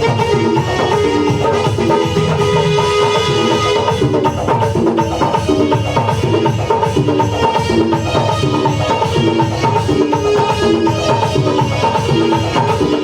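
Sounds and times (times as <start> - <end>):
loud music through sound system: 0.0 - 13.0.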